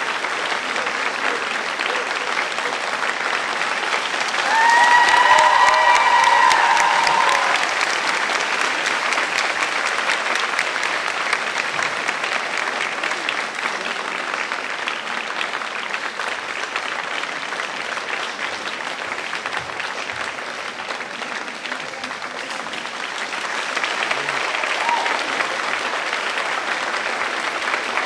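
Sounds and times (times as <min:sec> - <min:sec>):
audience applauding: 0:00.0 - 0:28.0.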